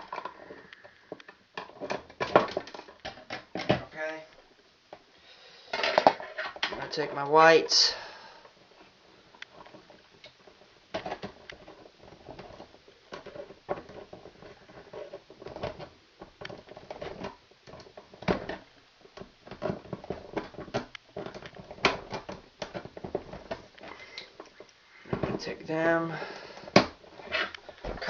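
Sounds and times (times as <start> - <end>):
wires rustling and clicking: 0.0 - 28.0.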